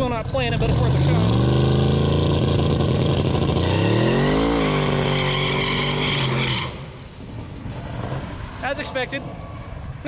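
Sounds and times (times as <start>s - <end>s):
truck engine at full throttle: 0.0s - 8.4s
tires spinning: 0.6s - 10.0s.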